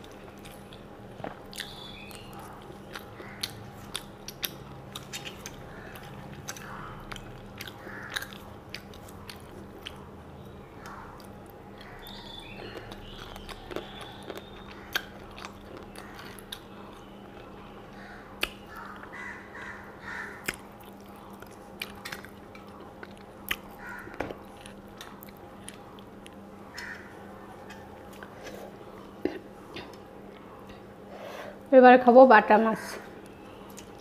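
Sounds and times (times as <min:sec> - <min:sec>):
person chewing: 0:00.0 - 0:10.1, 0:10.8 - 0:31.0.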